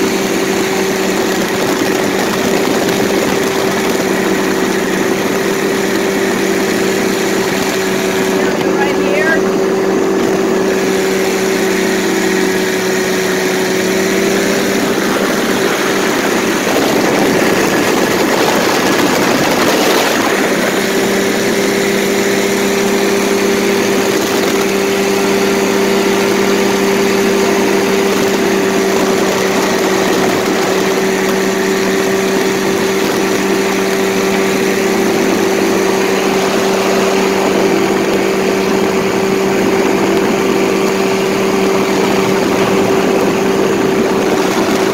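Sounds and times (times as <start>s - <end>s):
paramotor engine drone: 0.0s - 44.9s
wind rush: 0.0s - 44.9s.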